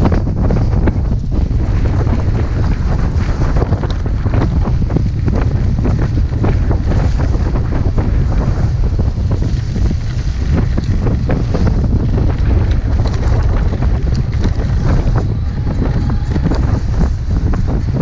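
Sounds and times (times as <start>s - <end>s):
bike rattling over rough ground: 0.0s - 18.0s
wind buffeting microphone: 0.0s - 18.0s.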